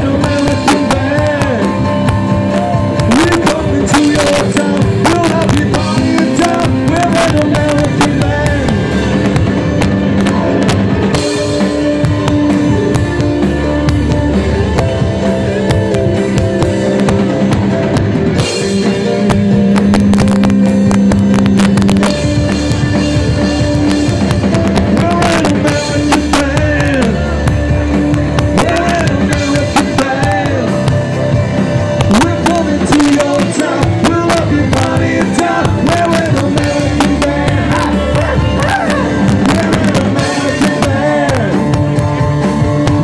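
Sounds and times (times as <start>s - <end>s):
live rock band playing: 0.0s - 43.0s.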